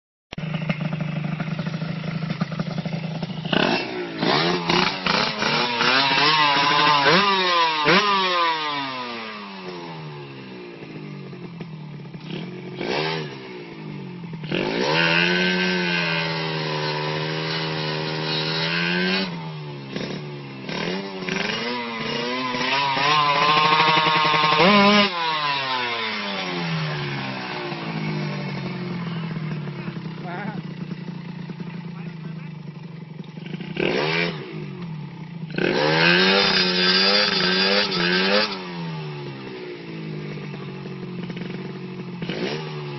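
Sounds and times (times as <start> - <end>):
small motorcycle engine revving: 0.4 - 42.9.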